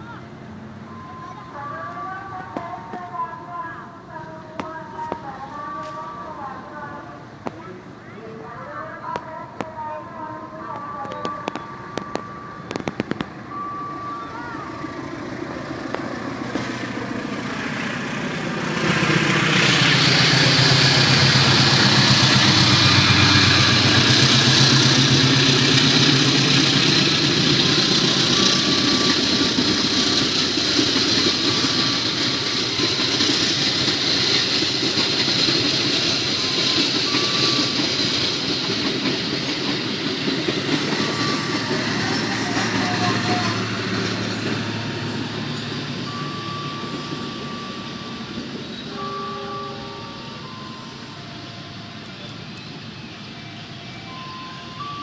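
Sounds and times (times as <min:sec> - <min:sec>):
train passing: 0:00.0 - 0:55.0.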